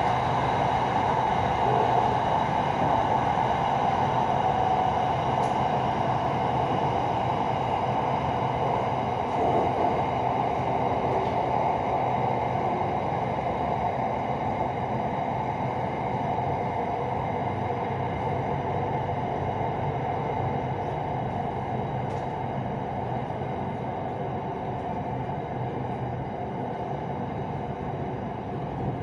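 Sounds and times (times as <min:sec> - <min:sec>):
train running noise from inside: 0:00.0 - 0:29.0.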